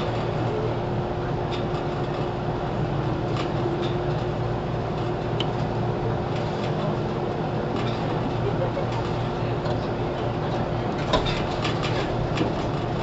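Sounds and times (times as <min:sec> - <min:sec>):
constant hum: 0:00.0 - 0:13.0
train running rumble: 0:00.0 - 0:13.0.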